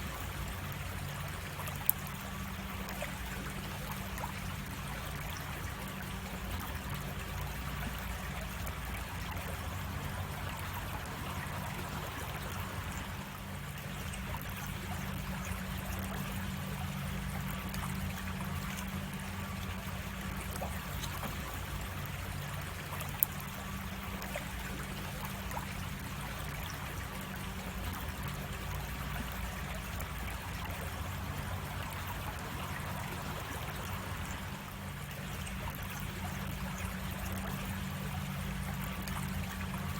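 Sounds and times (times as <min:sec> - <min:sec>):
creek water splashing over cascade: 0:00.0 - 0:39.9.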